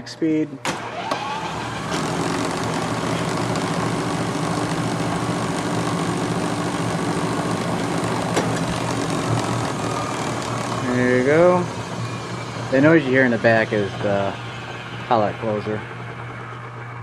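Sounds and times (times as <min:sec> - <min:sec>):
lathe spindle running: 0:00.0 - 0:17.0.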